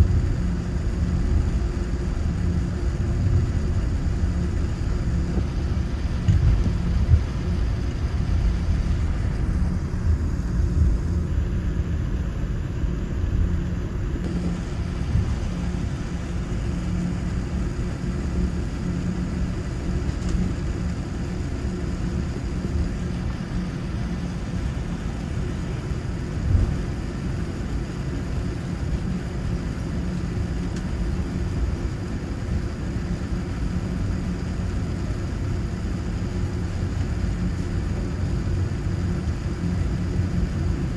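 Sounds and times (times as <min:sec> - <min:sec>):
aircraft cabin rumble: 0:00.0 - 0:40.9.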